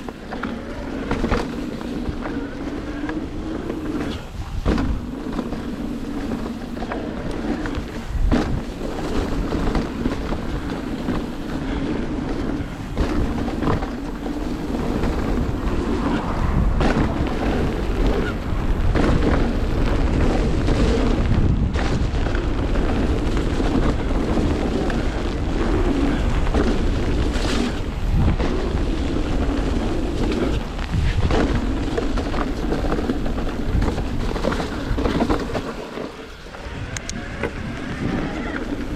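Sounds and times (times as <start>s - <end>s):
bike rattling over bumps: 0.0s - 38.9s
bike tyre noise: 0.0s - 38.9s
wind rumble on microphone: 0.0s - 38.9s.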